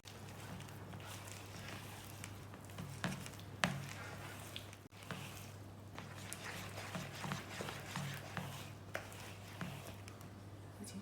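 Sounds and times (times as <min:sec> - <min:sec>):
spoon stirring batter in a bowl: 0:00.0 - 0:10.4.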